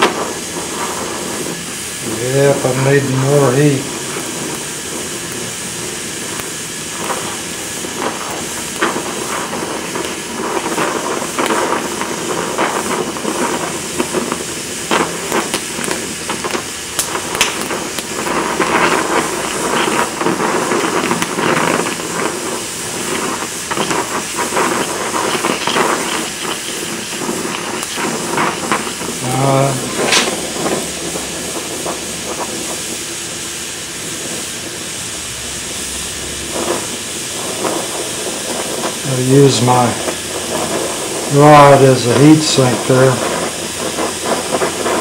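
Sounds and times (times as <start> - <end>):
sharp crackles and pops: 0.0 - 45.0
welding torch flame hissing: 0.0 - 45.0.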